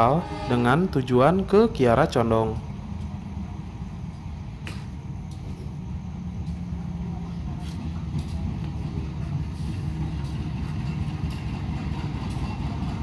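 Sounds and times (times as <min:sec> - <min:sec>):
train diesel engine running: 0:00.0 - 0:13.0.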